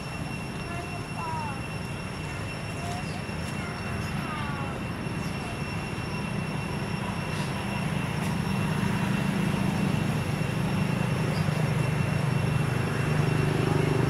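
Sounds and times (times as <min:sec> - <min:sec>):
low mechanical drone: 0:00.0 - 0:14.0
thin high tone: 0:00.0 - 0:14.0.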